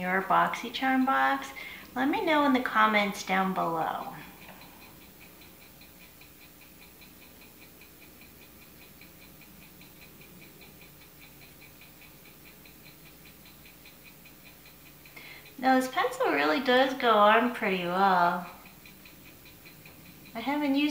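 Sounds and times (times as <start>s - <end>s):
faint rapid ticking: 0.0s - 20.9s.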